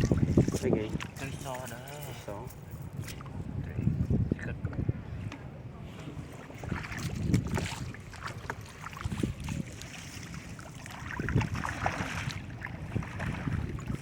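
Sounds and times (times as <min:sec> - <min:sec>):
water splashing and sloshing: 0:00.0 - 0:14.0
wind buffeting microphone: 0:00.0 - 0:14.0.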